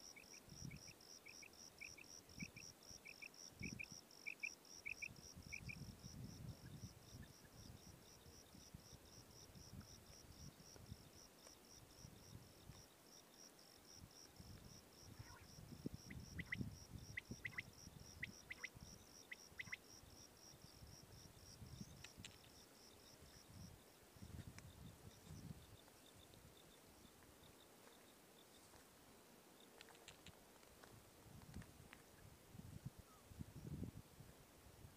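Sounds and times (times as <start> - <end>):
insect chirping: 0.0 - 28.8.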